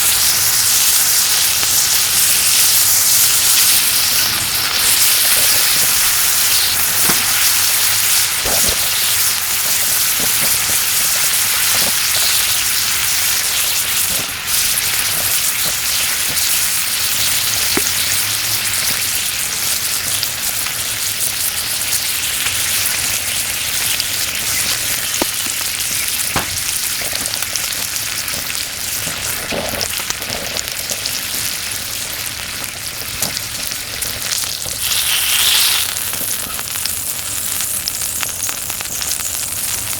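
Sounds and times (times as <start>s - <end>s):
meat sizzling on grill: 0.0s - 39.9s.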